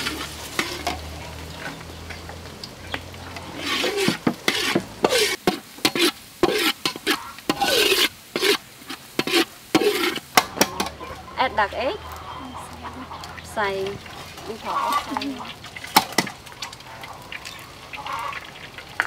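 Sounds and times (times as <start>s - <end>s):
metal spatula scraping wok: 0.0s - 18.6s
garlic sizzling in hot oil: 0.0s - 19.0s.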